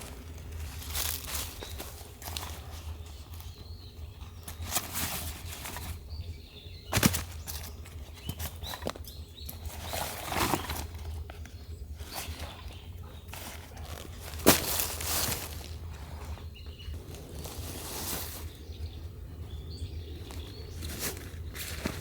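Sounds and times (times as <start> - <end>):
rustling and handling noises: 0.0 - 6.2, 6.8 - 19.0, 20.2 - 22.0.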